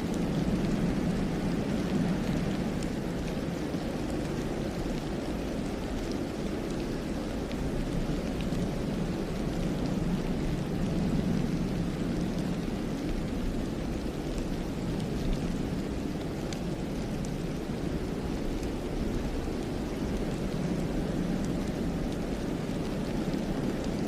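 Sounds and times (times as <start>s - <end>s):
wind through pine trees: 0.0s - 24.0s.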